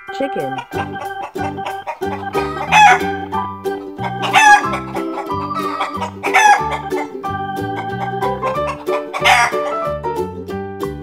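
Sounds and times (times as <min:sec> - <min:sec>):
chickens calling: 0:00.0 - 0:09.9
background music with steady beat: 0:00.0 - 0:11.0.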